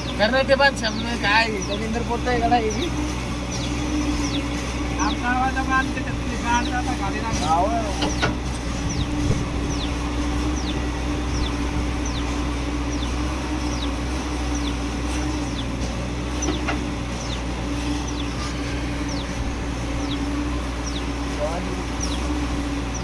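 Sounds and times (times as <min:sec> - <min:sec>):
bird chirping: 0:00.0 - 0:23.0
excavator diesel engine running: 0:00.0 - 0:23.0.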